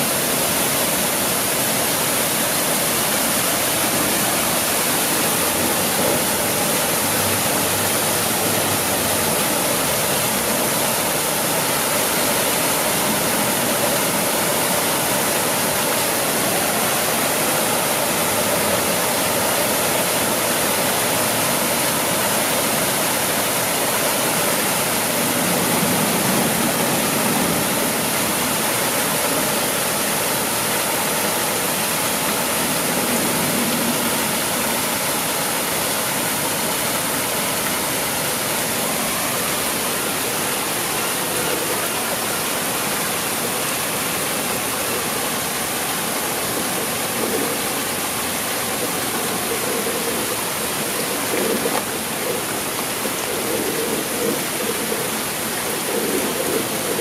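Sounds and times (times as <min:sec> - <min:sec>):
waterfall splashing over stones: 0:00.0 - 0:57.0.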